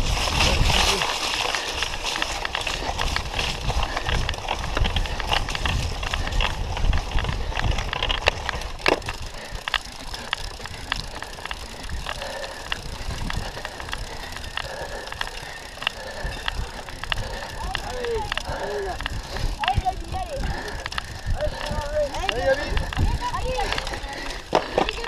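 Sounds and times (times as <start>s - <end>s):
wheels rumbling on ground: 0.0s - 25.0s.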